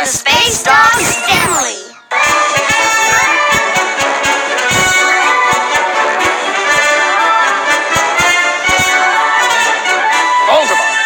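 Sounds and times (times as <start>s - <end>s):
brass band music: 2.1s - 11.0s.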